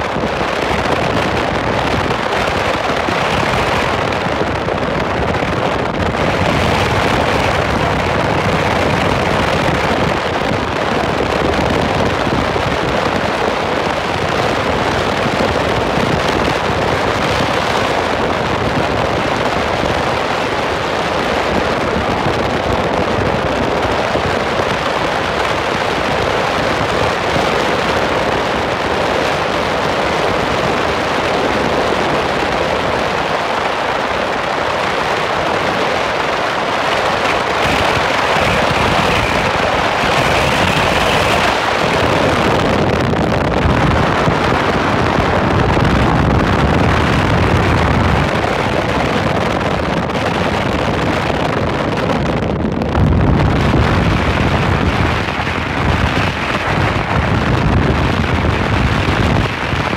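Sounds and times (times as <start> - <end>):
car road and wind noise: 0.0 - 59.9
wind buffeting microphone: 0.0 - 59.9.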